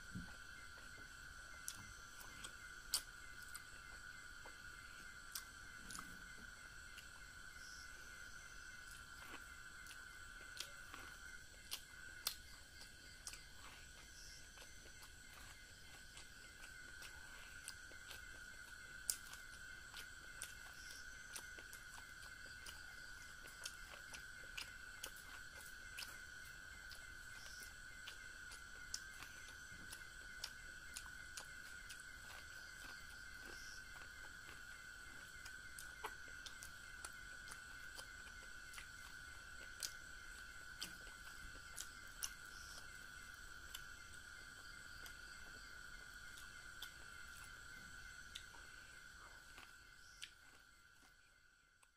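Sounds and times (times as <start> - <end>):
person chewing corn clicks: 0.0 - 51.9.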